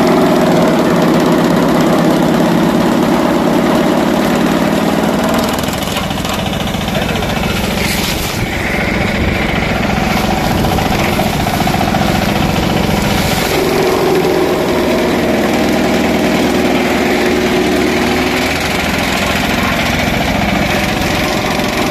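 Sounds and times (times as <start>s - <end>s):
cutter chopping straw: 0.0s - 21.9s
tractor diesel engine running: 0.0s - 21.9s.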